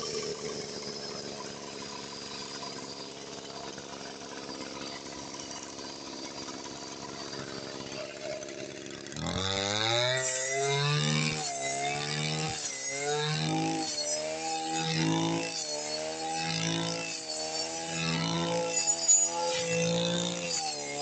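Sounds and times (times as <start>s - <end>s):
brush cutter engine revving: 0.0s - 21.0s.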